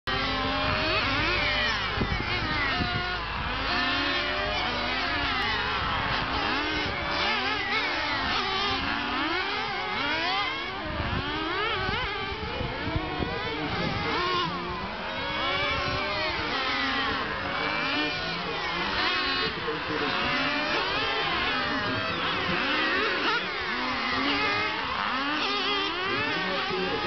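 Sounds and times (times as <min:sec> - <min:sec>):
model car motors whining: 0:00.1 - 0:27.0.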